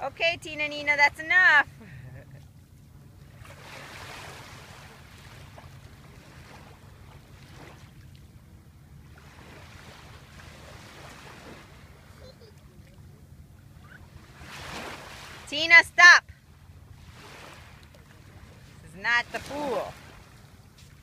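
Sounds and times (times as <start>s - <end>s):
small waves lapping at shore: 0.0s - 21.0s.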